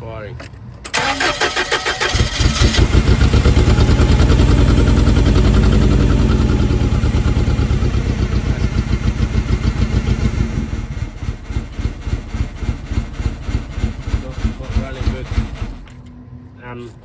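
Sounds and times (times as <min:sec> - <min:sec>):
engine running rough: 0:01.0 - 0:16.1.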